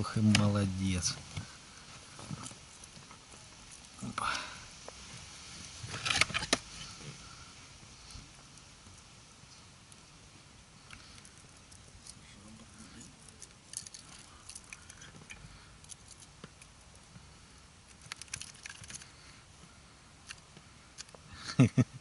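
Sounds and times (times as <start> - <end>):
faint clicking and rustling: 0.0 - 21.3.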